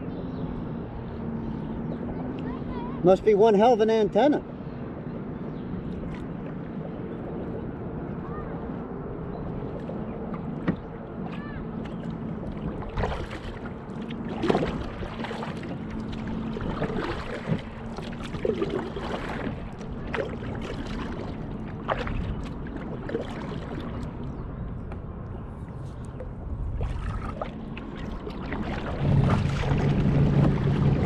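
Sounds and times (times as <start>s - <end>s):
paddle strokes: 5.8s - 31.0s
water splashing against kayak hull: 5.8s - 31.0s.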